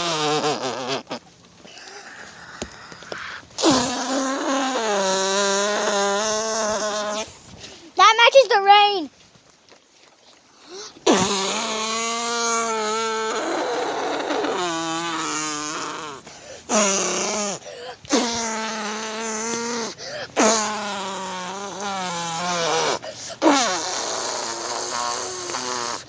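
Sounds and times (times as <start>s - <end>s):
child making lip trills: 0.0s - 9.1s, 10.7s - 26.0s.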